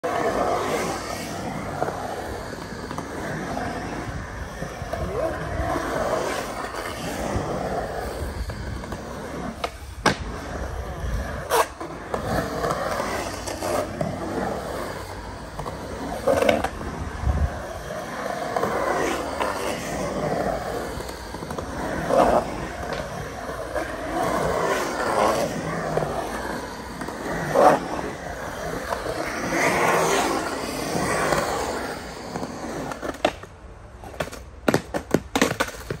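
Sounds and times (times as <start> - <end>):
skateboard clacks: 0.0 - 36.0
skateboard wheels rolling on concrete: 0.0 - 36.0.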